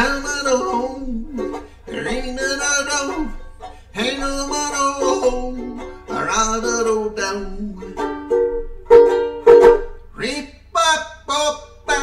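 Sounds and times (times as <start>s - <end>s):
man singing: 0.0s - 8.2s, 10.1s - 12.0s
banjo ukulele strumming: 0.0s - 12.0s.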